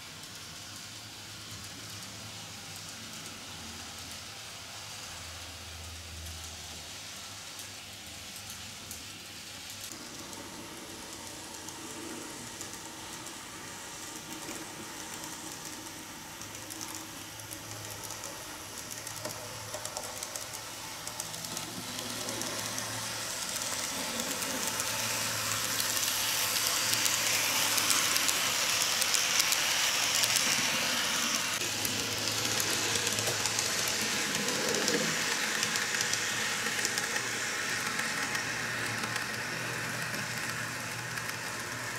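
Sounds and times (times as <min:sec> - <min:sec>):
model train motor whirring: 0:00.0 - 0:41.9.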